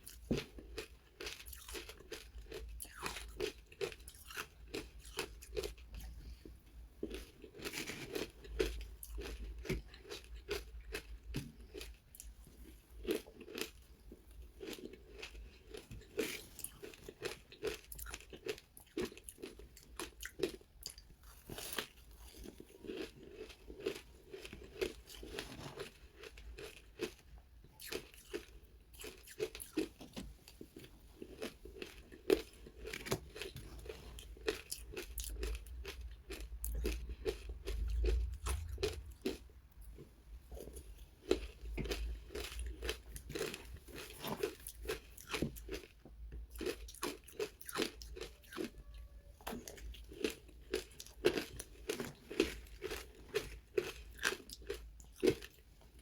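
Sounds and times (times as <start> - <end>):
chewing crunchy ice: 0.0 - 56.0.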